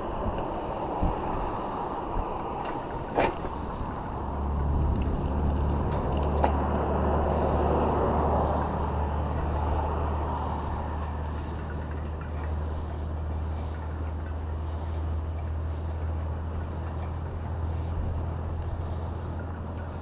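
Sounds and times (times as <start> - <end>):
bicycle tyre and wind noise: 0.0 - 20.0
steady low hum: 0.0 - 20.0.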